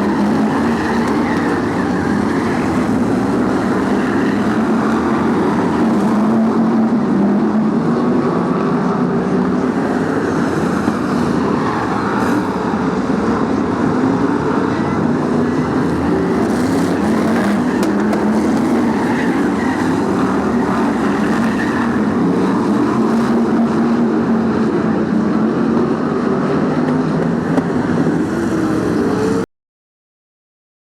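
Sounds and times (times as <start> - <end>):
stock car engines running: 0.0 - 29.4.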